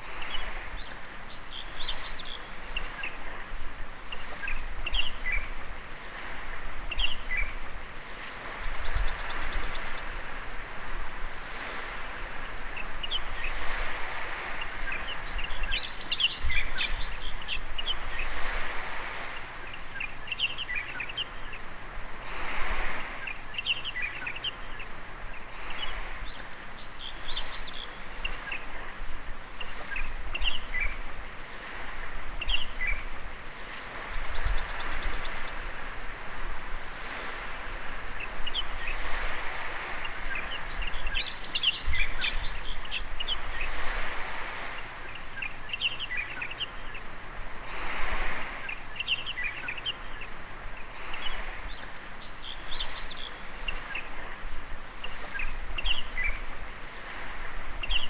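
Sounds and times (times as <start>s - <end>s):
birds chirping: 0.0s - 10.7s, 11.5s - 21.8s, 22.8s - 36.4s, 37.0s - 58.0s
small waves washing on sand: 0.0s - 58.0s.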